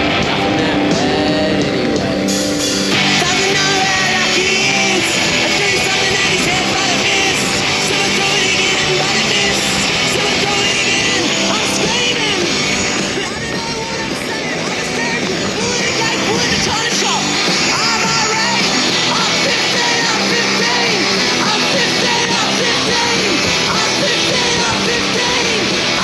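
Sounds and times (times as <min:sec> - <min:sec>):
rock music with singing: 0:00.0 - 0:26.0.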